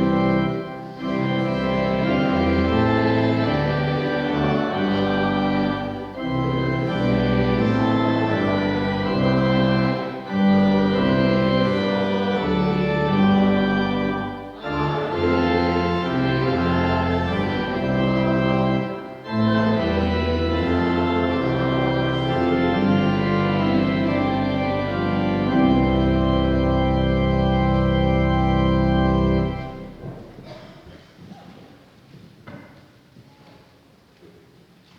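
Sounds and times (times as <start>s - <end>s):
organ playing sustained chords: 0.0s - 30.8s.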